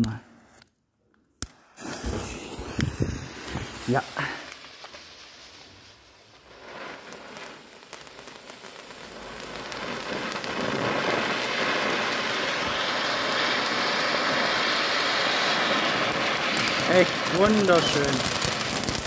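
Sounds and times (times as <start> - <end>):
firework fountains hissing: 1.4 - 19.0.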